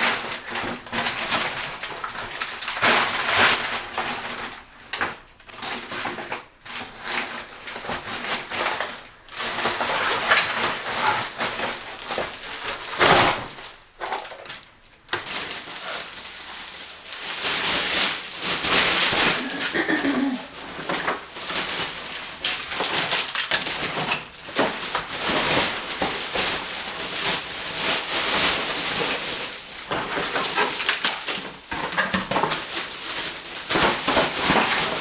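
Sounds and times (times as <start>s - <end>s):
rubbish crumpling and rustling: 0.0s - 35.0s.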